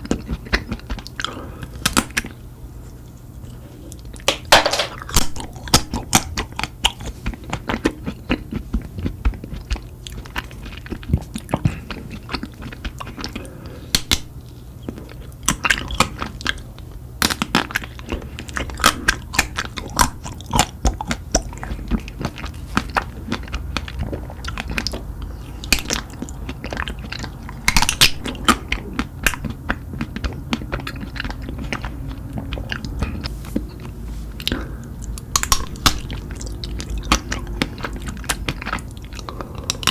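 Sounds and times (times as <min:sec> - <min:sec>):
crunchy bites and wet chewing: 0:00.0 - 0:02.4, 0:03.3 - 0:39.9.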